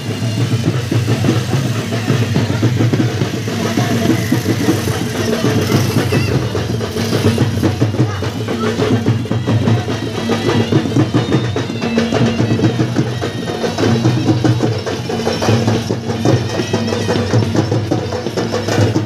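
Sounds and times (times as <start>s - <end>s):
drums playing a fast beat: 0.0s - 19.0s.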